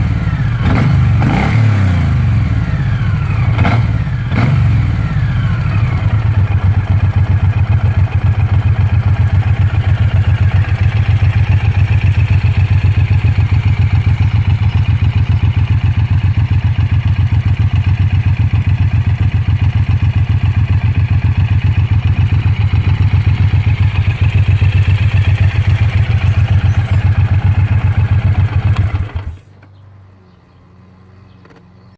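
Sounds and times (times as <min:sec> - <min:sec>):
motorcycle engine idling: 0:00.0 - 0:29.8.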